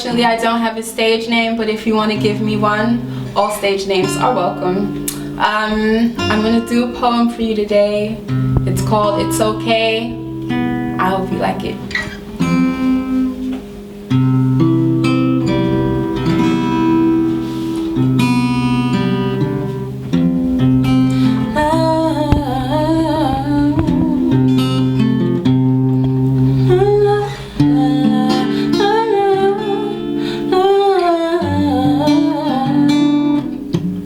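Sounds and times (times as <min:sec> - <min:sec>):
acoustic guitar chords: 0:00.0 - 0:34.0.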